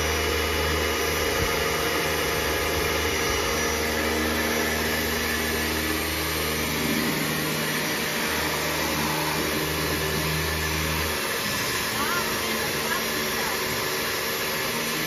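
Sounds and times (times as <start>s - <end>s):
pressure washer motor hum: 0.0s - 15.0s.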